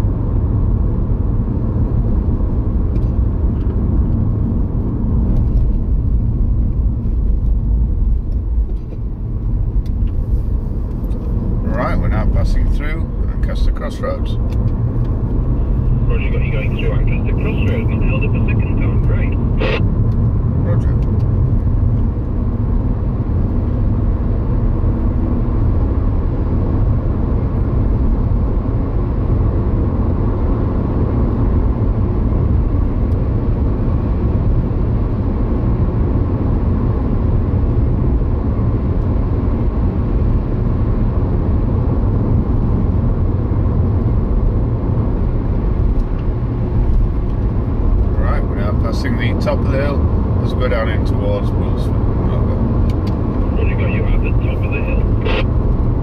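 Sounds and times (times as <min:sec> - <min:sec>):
car cabin road and engine rumble: 0:00.0 - 0:56.0.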